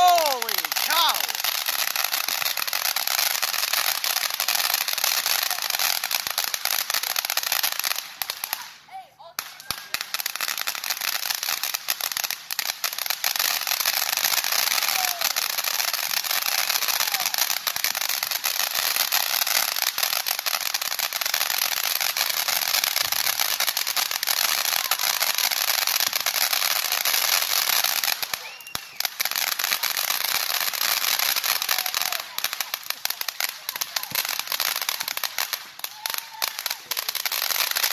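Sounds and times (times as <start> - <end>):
firework fountain hissing crackle: 0.0 - 37.9.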